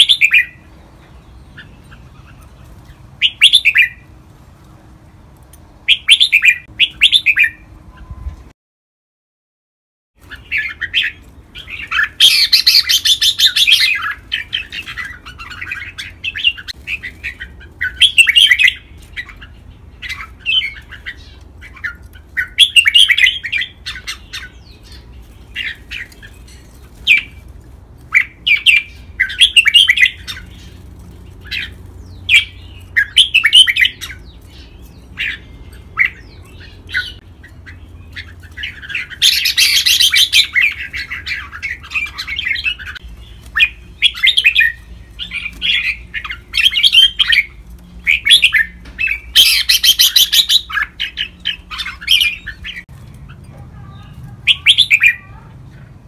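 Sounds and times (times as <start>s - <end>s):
birds singing whistled phrases: 0.0s - 2.6s, 3.2s - 4.1s, 5.8s - 8.5s, 10.2s - 27.4s, 28.1s - 30.8s, 31.4s - 55.4s.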